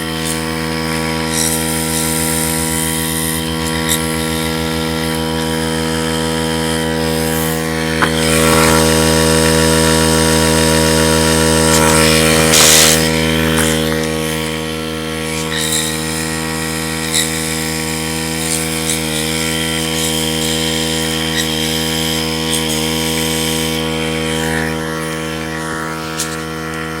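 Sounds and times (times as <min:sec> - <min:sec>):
air compressor humming: 0:00.0 - 0:27.0.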